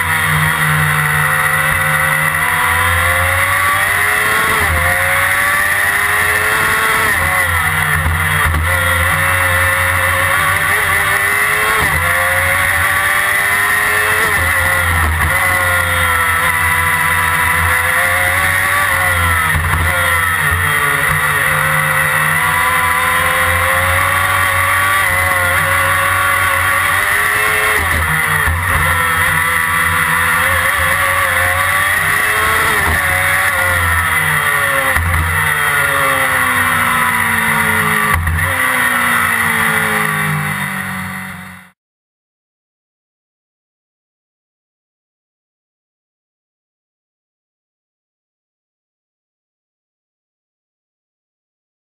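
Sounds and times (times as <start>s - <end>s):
race car engine revving: 0.0s - 41.8s.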